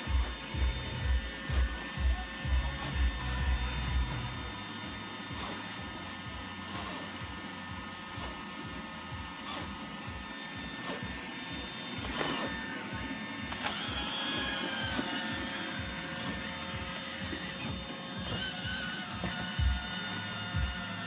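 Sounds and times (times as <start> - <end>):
high pitch-shifting whine: 0.0 - 21.0
robot vacuum whirring: 0.0 - 21.0.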